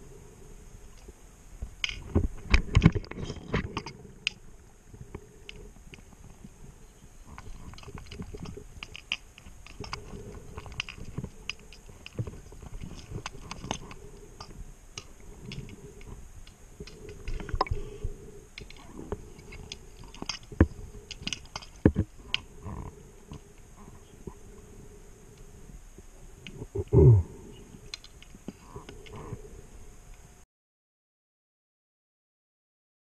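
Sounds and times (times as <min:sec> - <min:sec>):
faint steady hum: 0:00.0 - 0:30.4.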